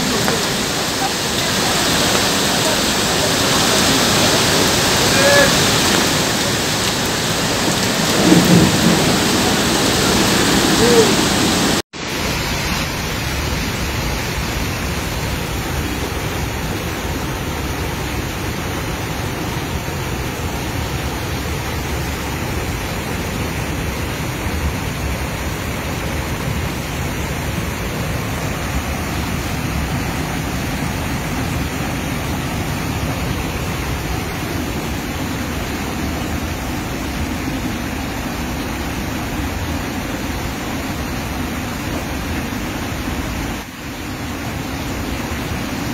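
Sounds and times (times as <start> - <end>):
floodwater rushing: 0.0 - 45.9.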